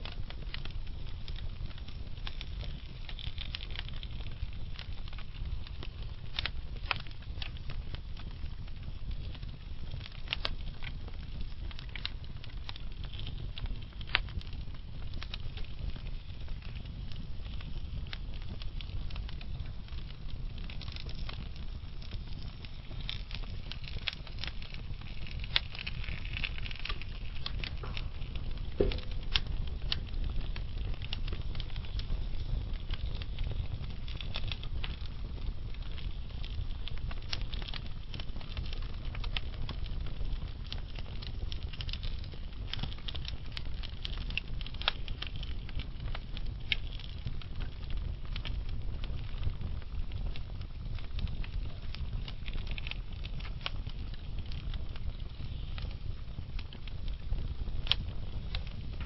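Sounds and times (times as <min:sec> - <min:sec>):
fire crackling and popping: 0:00.0 - 0:59.0
low rumble of flame: 0:00.0 - 0:59.0.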